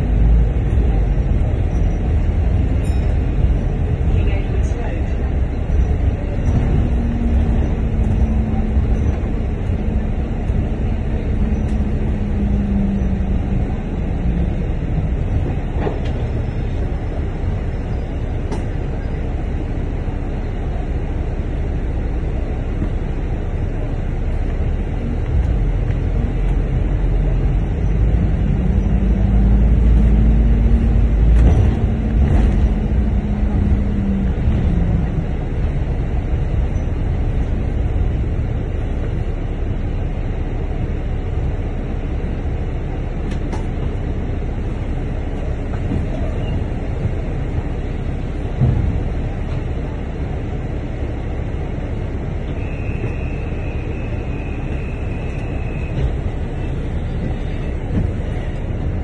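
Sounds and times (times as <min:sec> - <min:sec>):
bus engine rumble and whine: 0:00.0 - 0:59.0.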